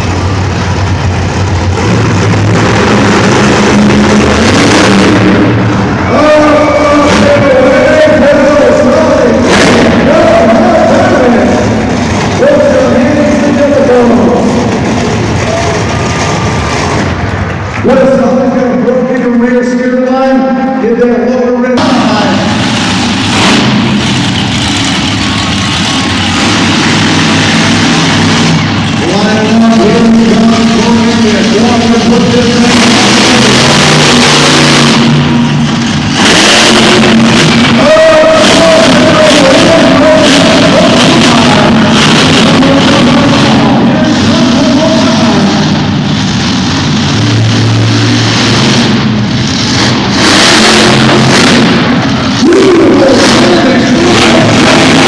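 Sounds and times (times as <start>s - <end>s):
monster truck engine echoing: 0.0s - 55.0s.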